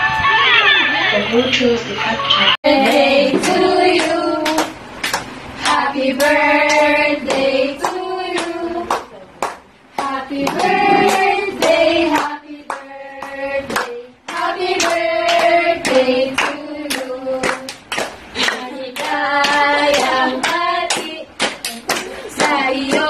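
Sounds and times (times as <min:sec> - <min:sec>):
women and children singing: 0:02.6 - 0:04.8, 0:05.6 - 0:09.1, 0:09.9 - 0:23.0.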